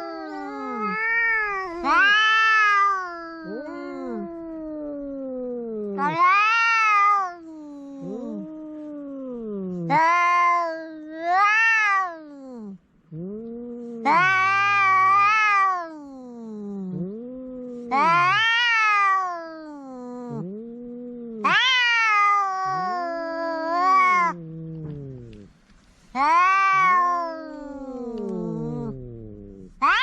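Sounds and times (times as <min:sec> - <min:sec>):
cat wailing call: 0:00.0 - 0:20.5, 0:21.4 - 0:24.4, 0:26.2 - 0:30.0
cat growling yowl: 0:00.0 - 0:30.0.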